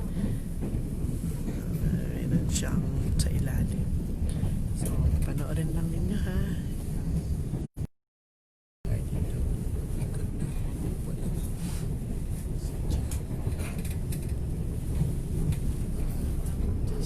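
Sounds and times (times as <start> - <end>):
train rumbling from inside: 0.0 - 7.7, 8.9 - 17.0.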